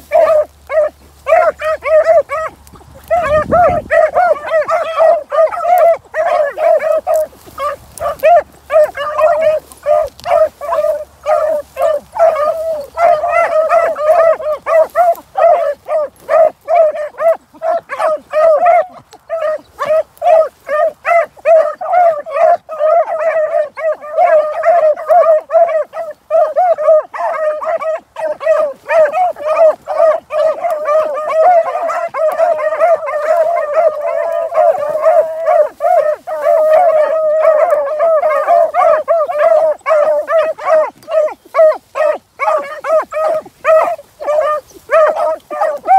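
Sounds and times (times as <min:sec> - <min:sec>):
dog yelping: 0:00.0 - 0:45.9.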